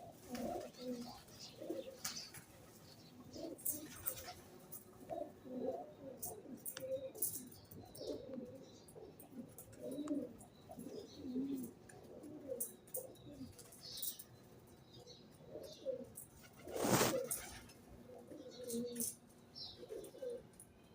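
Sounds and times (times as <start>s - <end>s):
pigeons cooing: 0.0s - 14.2s, 15.0s - 20.6s
small birds chirping: 0.0s - 20.9s.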